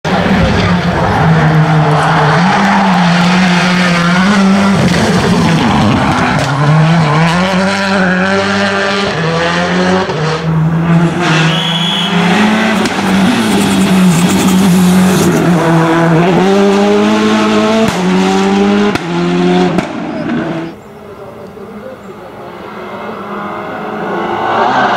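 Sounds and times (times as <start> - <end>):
rally car engine revving: 0.1 - 20.8, 22.1 - 24.9.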